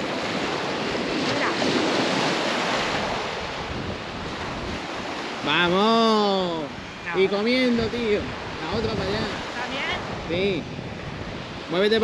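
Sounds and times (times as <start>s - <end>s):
sea surf washing up a beach: 0.0s - 12.0s
wind on the microphone: 0.0s - 12.0s.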